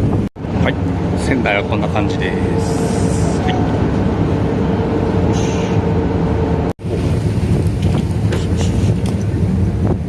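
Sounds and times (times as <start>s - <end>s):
ferry engine rumbling: 0.0s - 10.0s
wind buffeting microphone: 0.0s - 10.0s.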